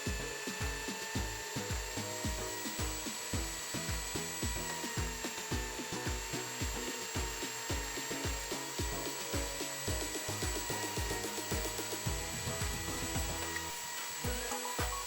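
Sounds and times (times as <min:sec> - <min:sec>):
background music with steady beat: 0:00.0 - 0:15.0
power tool whining on wood: 0:00.0 - 0:15.0.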